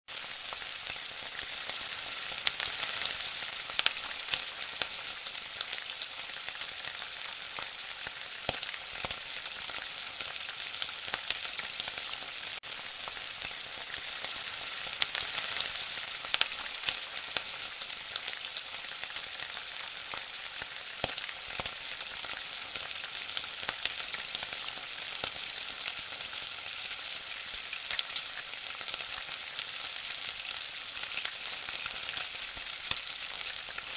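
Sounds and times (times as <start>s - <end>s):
food sizzling in hot oil: 0.1s - 33.9s.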